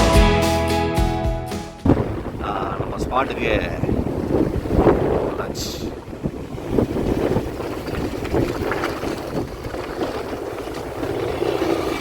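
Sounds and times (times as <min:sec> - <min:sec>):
wind buffeting microphone: 0:01.8 - 0:12.0.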